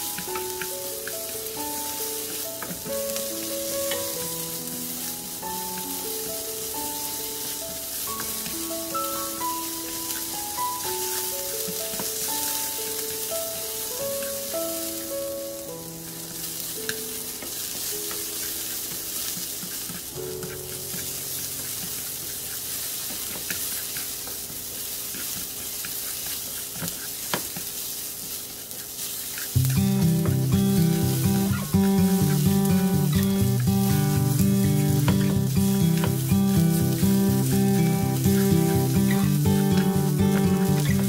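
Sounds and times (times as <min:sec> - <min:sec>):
soft background music: 0:00.0 - 0:23.9, 0:29.6 - 0:41.0
garlic sizzling in oil: 0:00.0 - 0:41.0.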